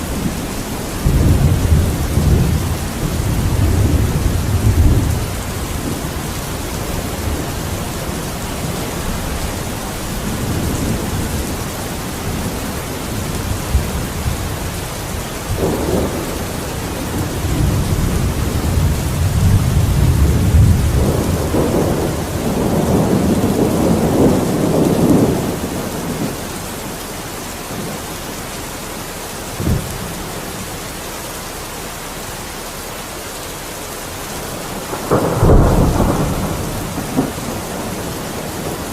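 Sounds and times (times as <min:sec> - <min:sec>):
rolling thunder: 0:00.0 - 0:26.6, 0:29.5 - 0:30.6, 0:34.5 - 0:38.9
steady rain: 0:00.0 - 0:38.9.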